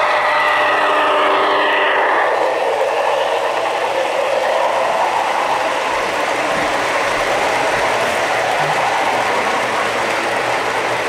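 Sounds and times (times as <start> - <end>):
model train wheels rattling on rail: 0.0 - 11.0.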